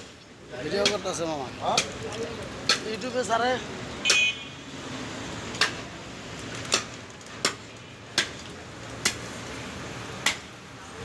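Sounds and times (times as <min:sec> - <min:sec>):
background noise: 0:00.0 - 0:11.0.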